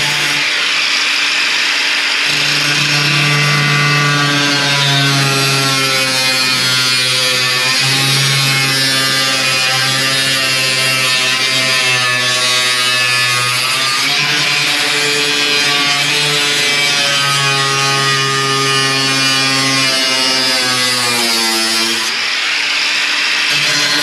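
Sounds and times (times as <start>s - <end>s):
power tool cutting sheet metal: 0.0s - 24.0s.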